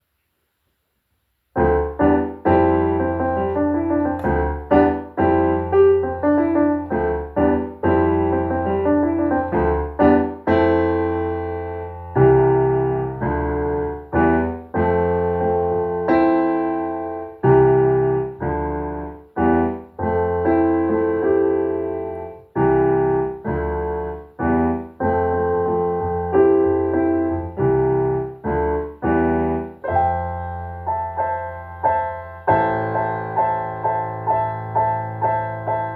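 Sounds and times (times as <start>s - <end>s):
keyboard playing piano chords: 1.6s - 35.9s.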